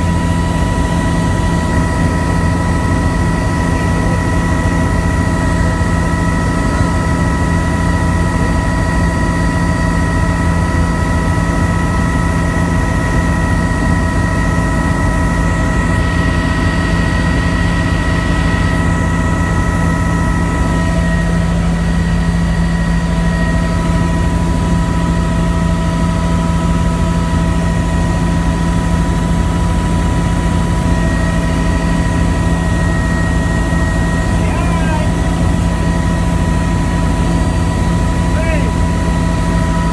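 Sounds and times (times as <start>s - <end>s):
helicopter rotor and engine drone: 0.0s - 39.9s
high turbine whine: 0.0s - 39.9s.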